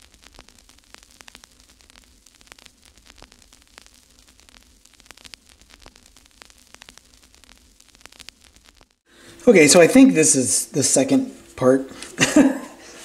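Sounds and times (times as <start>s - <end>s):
faint static crackle: 0.0s - 13.0s
low hiss: 0.0s - 13.0s
steady mains hum: 0.0s - 13.0s.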